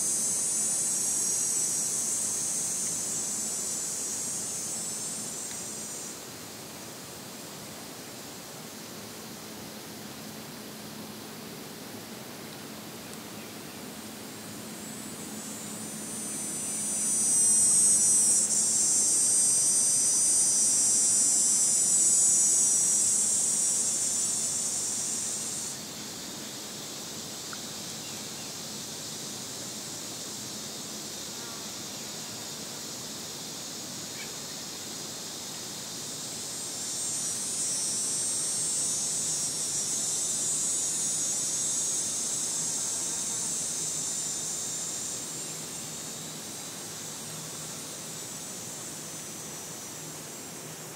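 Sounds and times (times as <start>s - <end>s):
cicada buzzing: 0.0s - 50.9s.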